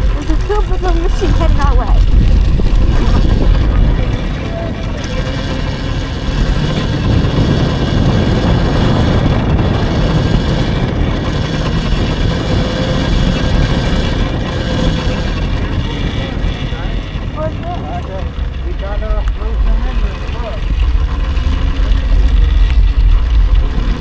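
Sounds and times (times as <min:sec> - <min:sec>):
electric dirt bike rumble: 0:00.0 - 0:24.0
tyre noise on dirt road: 0:00.0 - 0:24.0
wind buffeting: 0:00.0 - 0:24.0.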